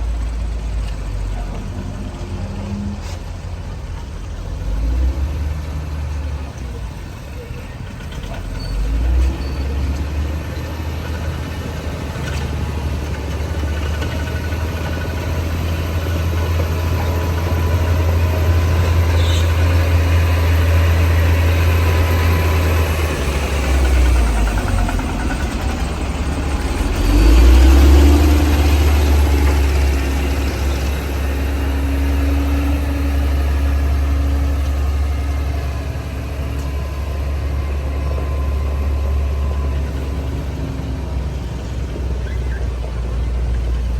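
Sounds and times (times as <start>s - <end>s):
bulldozer diesel engine droning: 0.0s - 43.9s.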